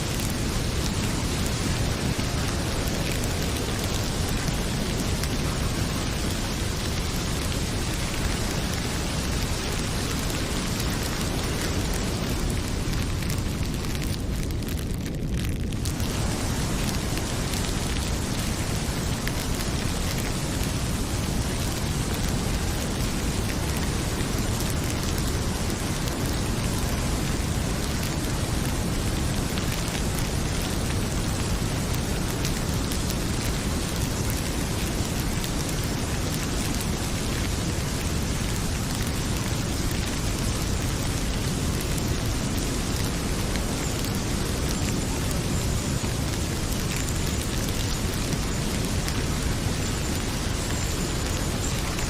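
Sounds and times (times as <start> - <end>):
heavy rain: 0.0 - 52.0
wood fire crackling: 0.0 - 52.0.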